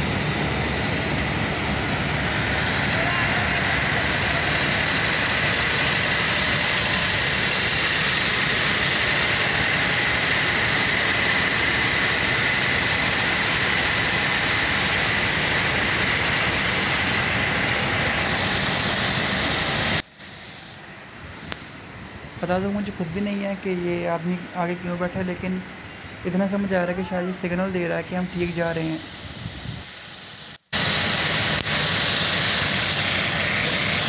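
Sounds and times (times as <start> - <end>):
diesel locomotive engine: 0.0 - 34.0
water churning around wheels: 0.0 - 34.0.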